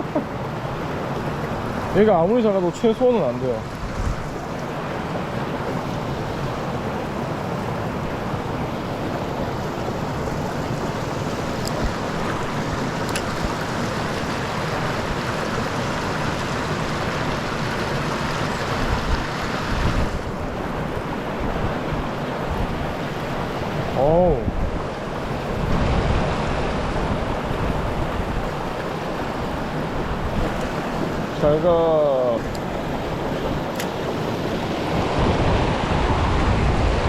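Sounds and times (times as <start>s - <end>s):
flowing stream water: 0.0s - 37.0s.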